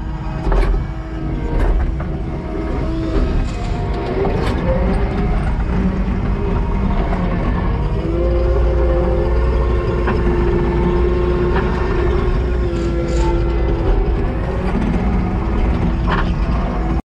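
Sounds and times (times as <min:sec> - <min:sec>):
diesel engine rumbling: 0:00.0 - 0:17.0
steady mechanical whine: 0:00.0 - 0:17.0.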